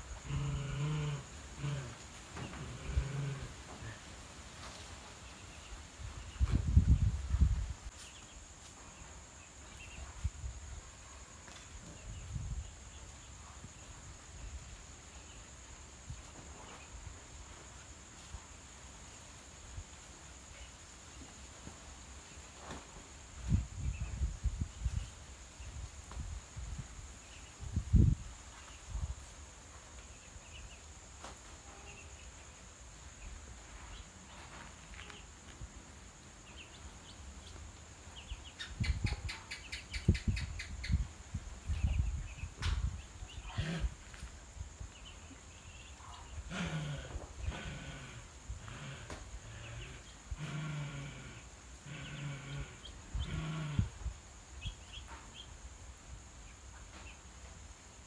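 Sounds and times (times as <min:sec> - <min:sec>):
faint insect chirps: 0:00.0 - 0:58.0
night crickets trilling: 0:00.0 - 0:58.0.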